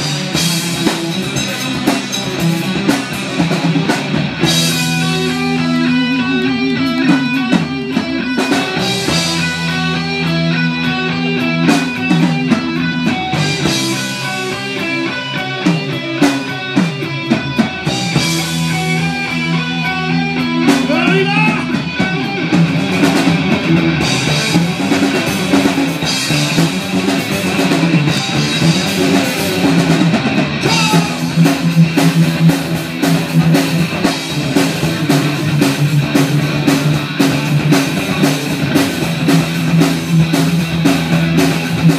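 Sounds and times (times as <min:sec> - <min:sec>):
drum kit: 0:00.0 - 0:41.9
guitars: 0:00.0 - 0:41.9.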